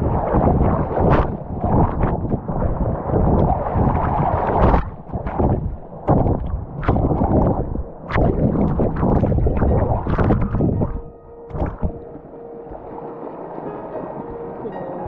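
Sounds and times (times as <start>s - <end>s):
water rushing and gurgling: 0.0s - 15.0s.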